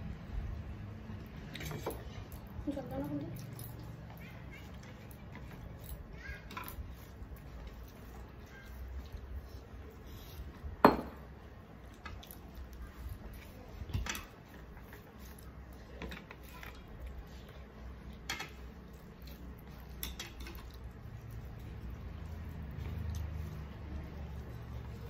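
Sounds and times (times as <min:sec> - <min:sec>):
fingers squishing rice and curry: 0:03.2 - 0:25.0.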